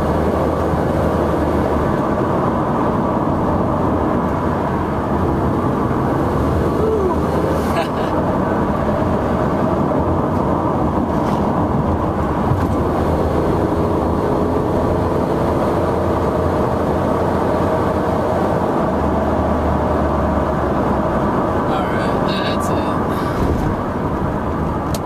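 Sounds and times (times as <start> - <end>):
car engine cruising: 0.0 - 25.0
road and tyre noise: 0.0 - 25.0.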